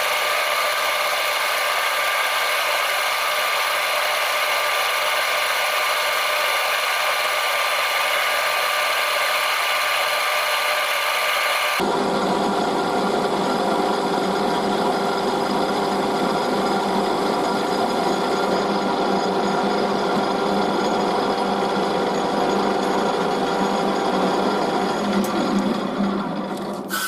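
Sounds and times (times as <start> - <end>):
metal lathe cutting: 0.0 - 27.0.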